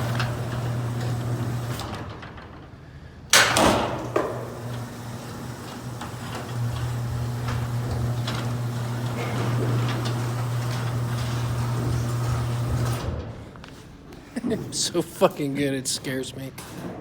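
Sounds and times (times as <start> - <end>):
garage door opener motor hum: 0.0 - 13.7.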